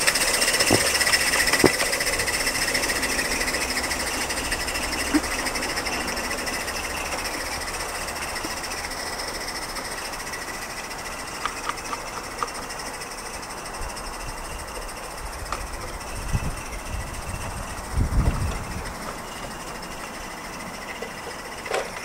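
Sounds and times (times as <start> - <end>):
steam locomotive exhaust beat: 0.0 - 22.0.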